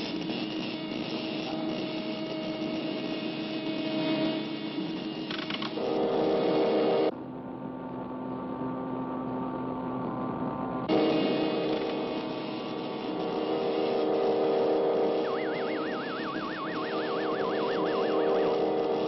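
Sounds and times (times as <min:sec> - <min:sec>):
electrical machinery hum: 0:00.0 - 0:19.0.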